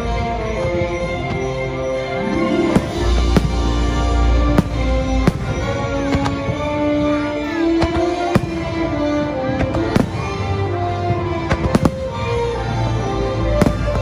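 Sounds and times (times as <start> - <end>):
music playing: 0.0 - 14.0
fireworks bangs: 1.3 - 14.0.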